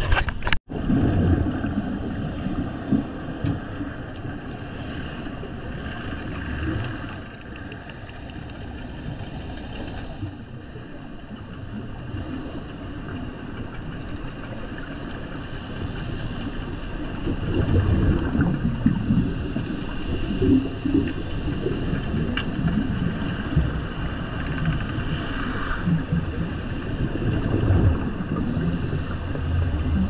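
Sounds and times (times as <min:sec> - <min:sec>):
muffled underwater rumble: 0:00.7 - 0:30.0.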